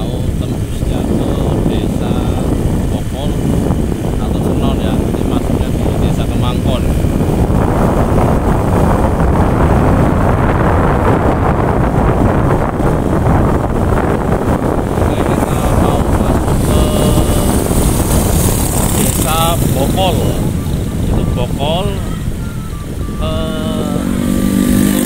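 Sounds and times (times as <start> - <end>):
engine and tyre rumble: 0.0 - 25.0
wind buffeting microphone: 0.0 - 25.0.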